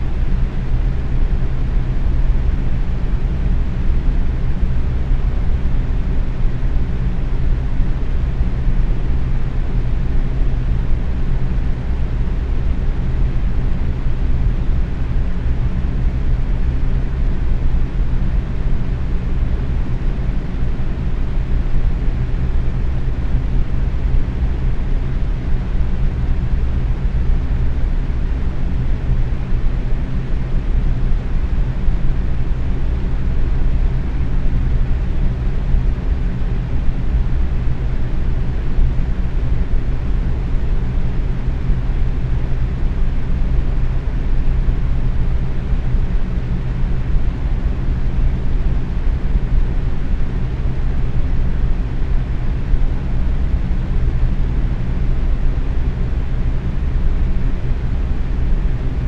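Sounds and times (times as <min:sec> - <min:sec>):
box fan running: 0:00.0 - 0:59.0.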